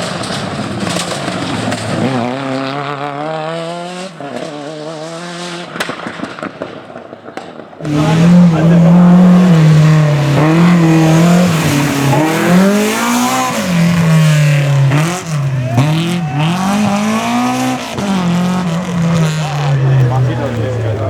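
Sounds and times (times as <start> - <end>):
rally car engine revving: 0.0 - 6.7, 7.3 - 21.0.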